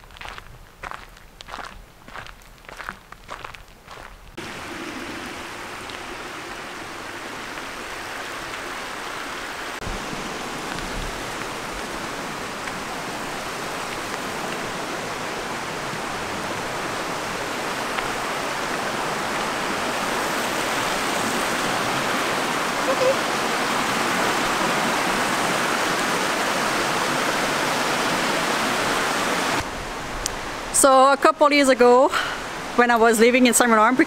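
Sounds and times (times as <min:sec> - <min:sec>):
rushing creek water: 0:04.4 - 0:34.0.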